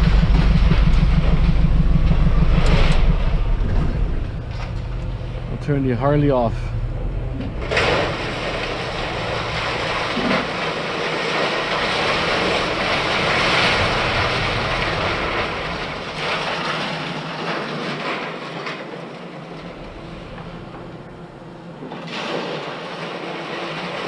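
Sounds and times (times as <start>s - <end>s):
heavy machinery rumbling: 0.0s - 24.0s.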